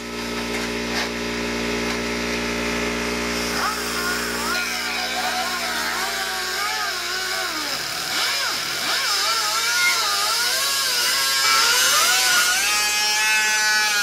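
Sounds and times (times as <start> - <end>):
cut-off wheel grinding metal: 0.0 - 14.0.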